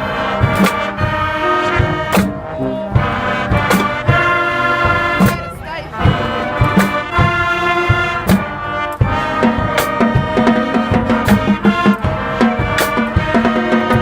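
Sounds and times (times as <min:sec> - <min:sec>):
brass horns: 0:00.0 - 0:14.0
marching drums: 0:00.0 - 0:14.0.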